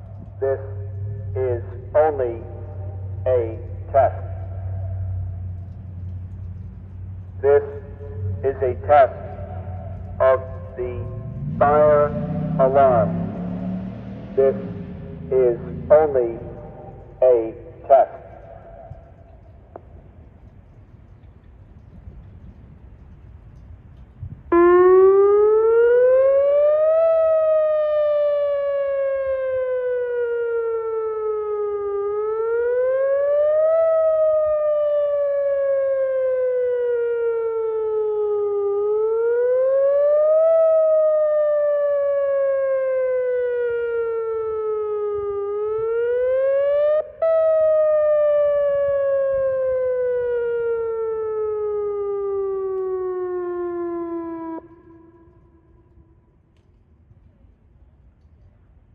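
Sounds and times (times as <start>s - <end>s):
warning siren wailing: 0.0s - 20.8s, 23.6s - 56.8s.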